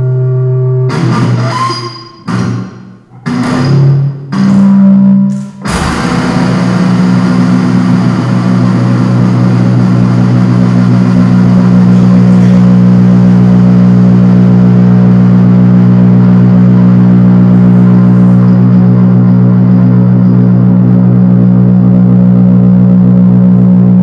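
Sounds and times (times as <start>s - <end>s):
loud low drone: 0.0s - 24.0s.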